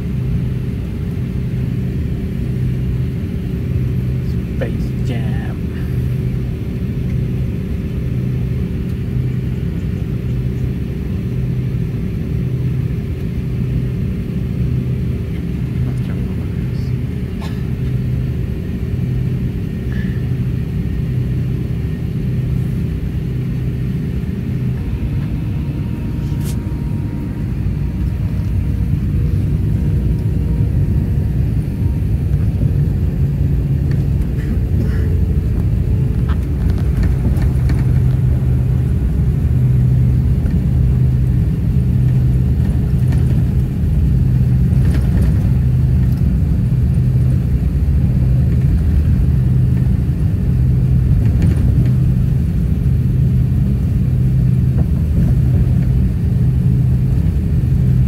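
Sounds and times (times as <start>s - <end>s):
jet engines rumbling: 0.0s - 58.0s
low pulsing hum: 0.0s - 58.0s.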